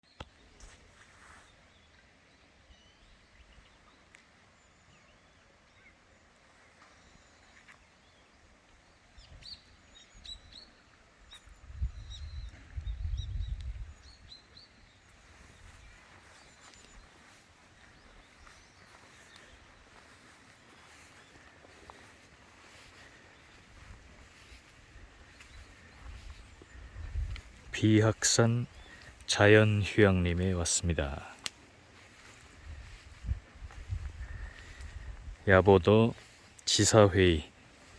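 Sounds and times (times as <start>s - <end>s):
small birds chirping: 0.1s - 37.9s.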